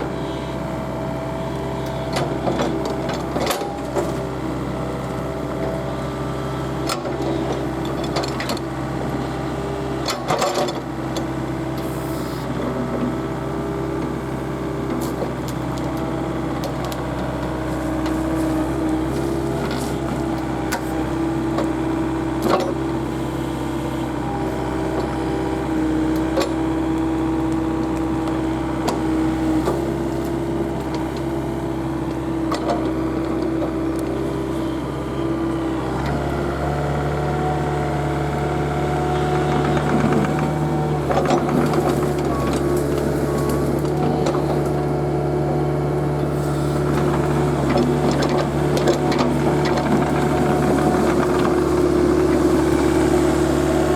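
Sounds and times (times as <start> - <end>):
excavator diesel engine drone: 0.0 - 53.9.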